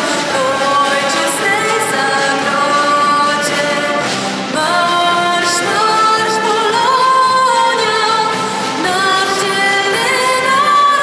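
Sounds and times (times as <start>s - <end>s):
wind band playing held chords: 0.0s - 10.7s
woman singing through loudspeakers: 0.0s - 11.0s.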